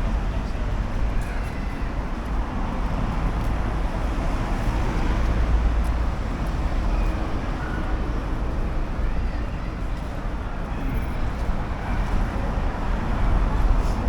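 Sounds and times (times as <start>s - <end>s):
traffic noise with low rumble: 0.0s - 14.0s.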